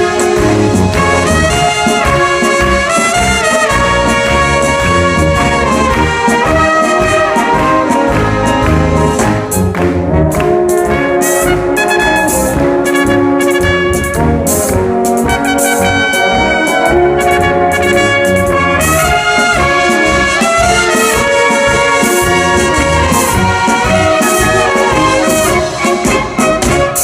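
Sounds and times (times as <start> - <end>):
brass band playing a polka: 0.0 - 27.0.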